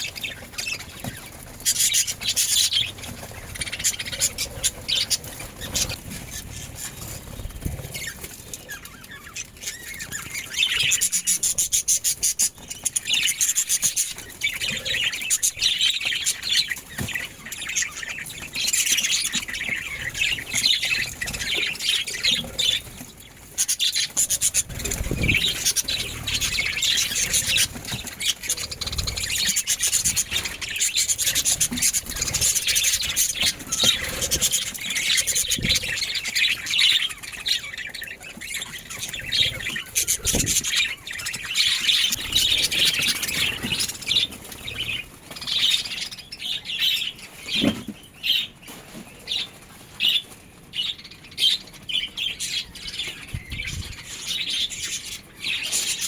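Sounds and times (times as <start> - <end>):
budgerigars chirping: 0.0 - 48.6, 49.3 - 56.0.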